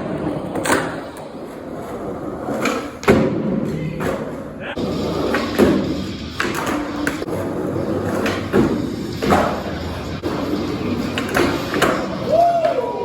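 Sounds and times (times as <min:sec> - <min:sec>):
skateboard wheels rolling: 0:00.0 - 0:13.0.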